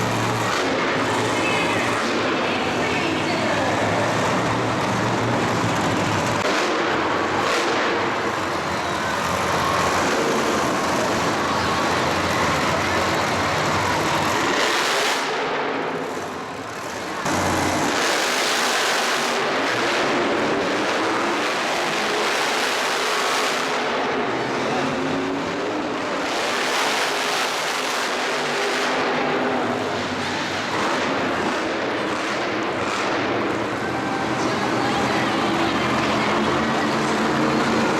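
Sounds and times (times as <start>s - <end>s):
monster truck engines roaring: 0.0s - 37.9s.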